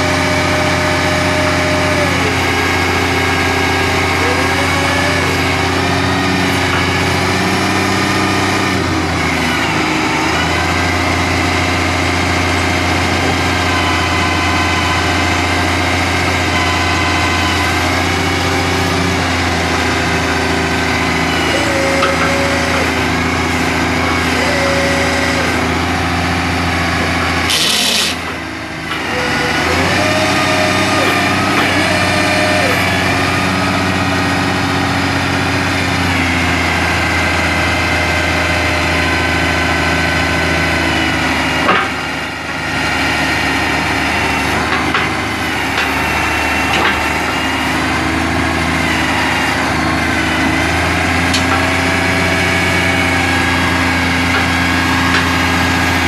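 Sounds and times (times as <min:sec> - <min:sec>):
diesel engine running: 0:00.0 - 0:56.0
hydraulic whining: 0:00.0 - 0:56.0.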